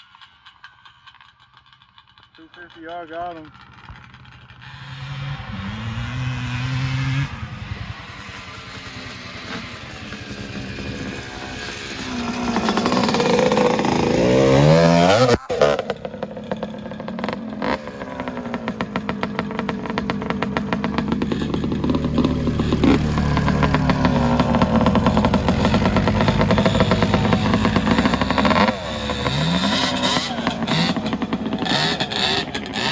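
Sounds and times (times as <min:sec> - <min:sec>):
atv engine revving: 0:00.0 - 0:32.9.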